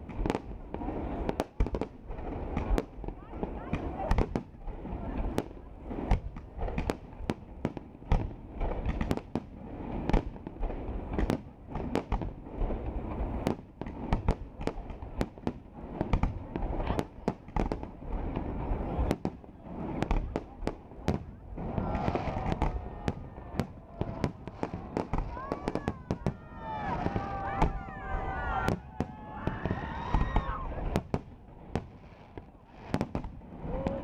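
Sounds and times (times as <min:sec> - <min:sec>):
fireworks bursts and bangs: 0:00.0 - 0:34.0.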